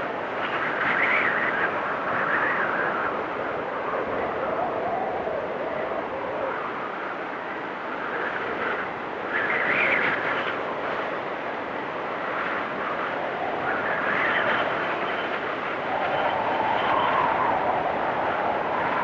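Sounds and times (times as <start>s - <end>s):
gusting blizzard wind: 0.0s - 19.0s.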